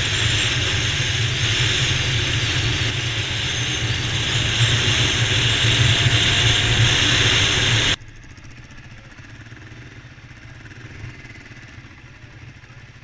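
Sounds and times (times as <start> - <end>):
motorcycle engine at speed: 0.0 - 13.0
motorcycle engines idling: 0.0 - 13.0.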